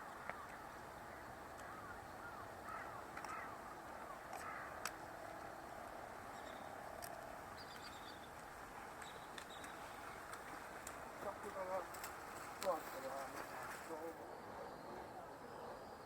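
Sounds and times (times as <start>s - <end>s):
faint bird calls: 0.0s - 16.0s.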